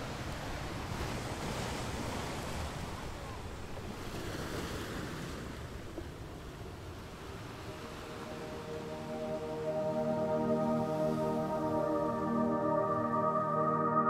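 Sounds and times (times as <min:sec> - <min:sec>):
waves breaking on beach: 0:00.0 - 0:12.7.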